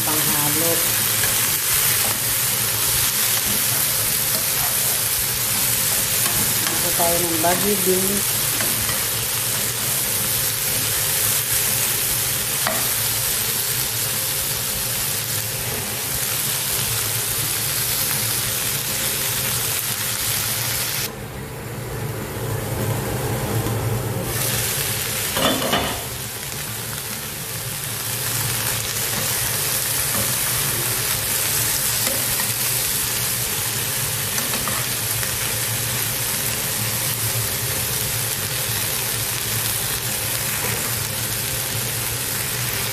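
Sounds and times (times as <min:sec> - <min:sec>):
beans sizzling in frying pan: 0:00.0 - 0:21.1, 0:24.2 - 0:42.9.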